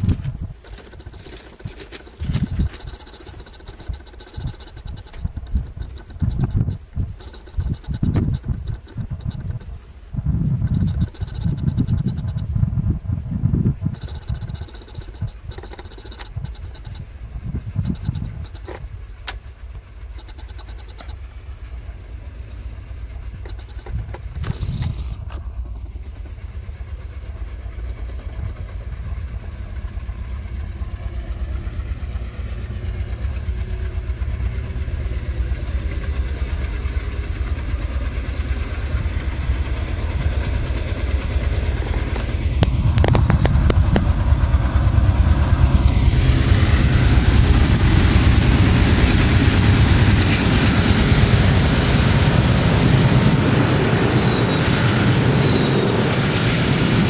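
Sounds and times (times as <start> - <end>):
diesel locomotive engine rumble: 0.0 - 57.0
wheels on rails: 0.0 - 57.0.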